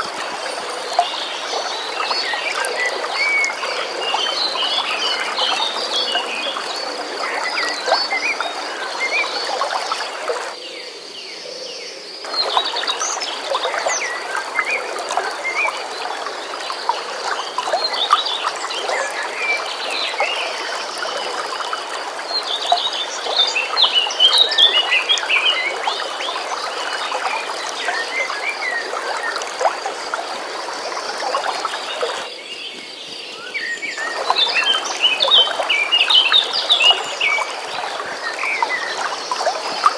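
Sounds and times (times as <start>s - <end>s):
stream water flowing: 0.0s - 11.4s, 12.0s - 39.9s.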